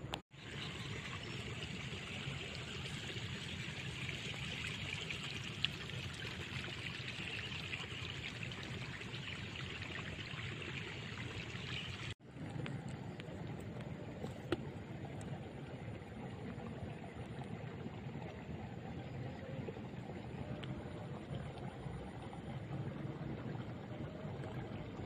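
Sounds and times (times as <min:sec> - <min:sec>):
running water flowing: 0:00.0 - 0:25.0.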